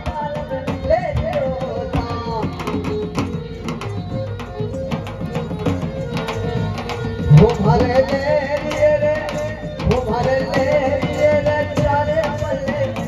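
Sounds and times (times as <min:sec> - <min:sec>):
drum beating steady rhythm: 0:00.0 - 0:13.0.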